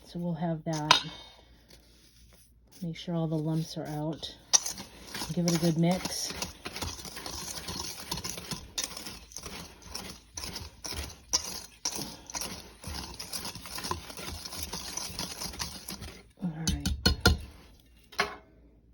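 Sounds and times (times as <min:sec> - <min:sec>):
powder stirred in container: 0:00.0 - 0:18.1
scraping and knocking strokes: 0:00.7 - 0:18.2.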